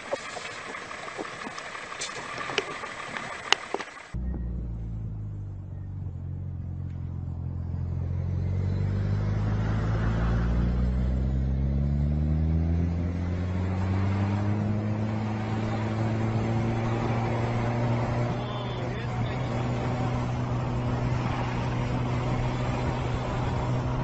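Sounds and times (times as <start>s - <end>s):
vehicle engine under load: 0.0s - 24.0s.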